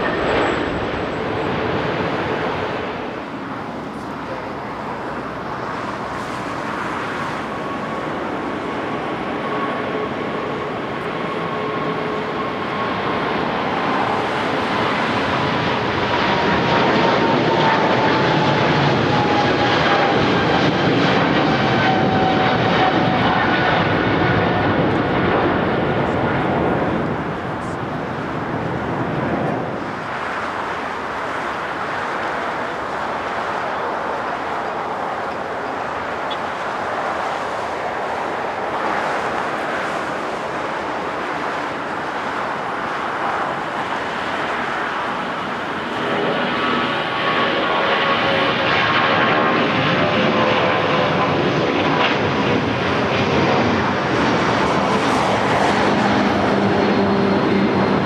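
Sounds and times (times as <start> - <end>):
jet engine whine: 0.0 - 58.0
jet plane taking off: 0.0 - 58.0.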